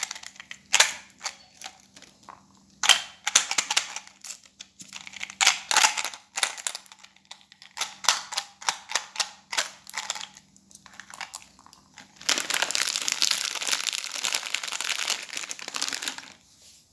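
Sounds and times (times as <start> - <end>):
plastic wrappers crinkling: 0.0 - 16.4.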